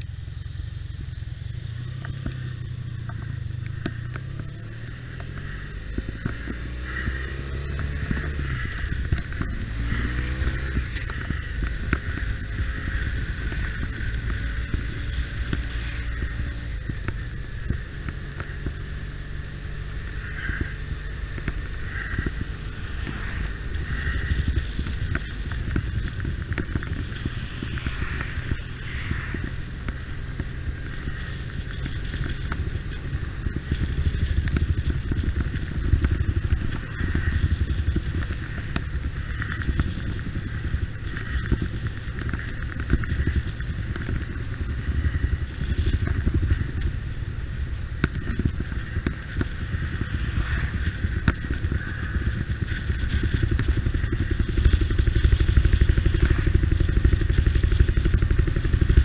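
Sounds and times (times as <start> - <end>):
motorcycle engine rumbling: 0.0 - 59.0
road noise: 0.0 - 59.0.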